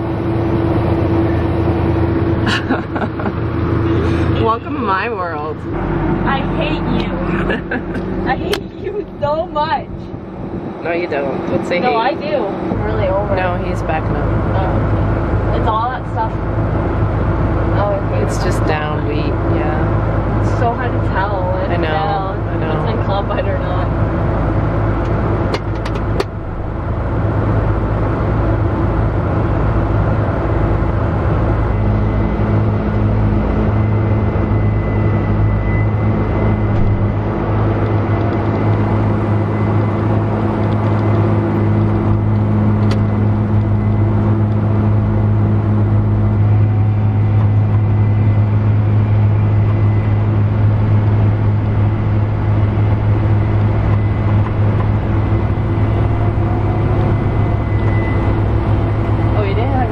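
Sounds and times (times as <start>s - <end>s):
steady tone: 0.0s - 25.5s, 26.3s - 59.9s
tractor engine droning: 0.0s - 59.9s.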